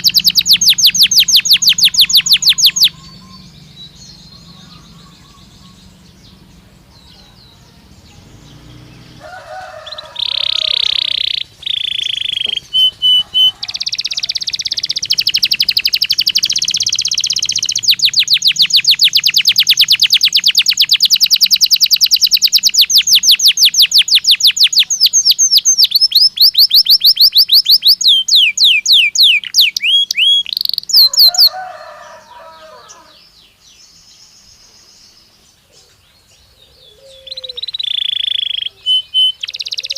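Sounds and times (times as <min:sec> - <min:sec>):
canary singing trills: 0:00.0 - 0:39.9
low rough bird chatter: 0:00.0 - 0:39.9.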